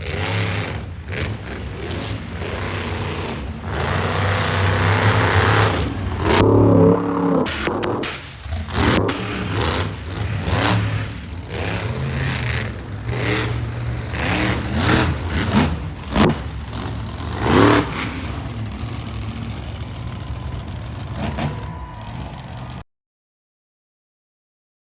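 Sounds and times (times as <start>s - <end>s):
monster truck engine revving: 0.0s - 22.8s.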